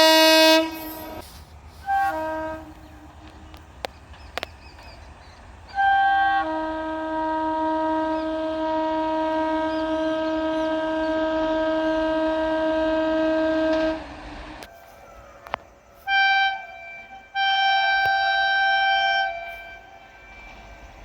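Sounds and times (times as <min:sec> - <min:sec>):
train air horn: 0:00.0 - 0:03.9, 0:05.7 - 0:21.0.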